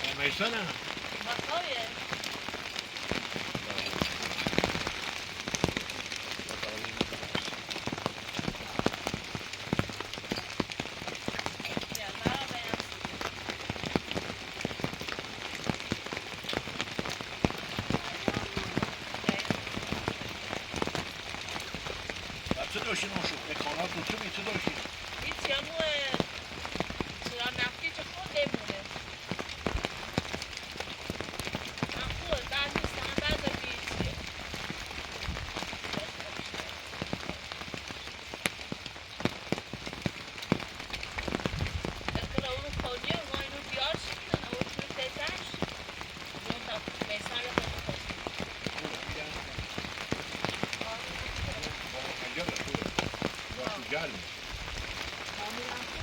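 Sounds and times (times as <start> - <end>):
rain falling: 0.0 - 56.0
raindrops striking close by: 0.0 - 56.0.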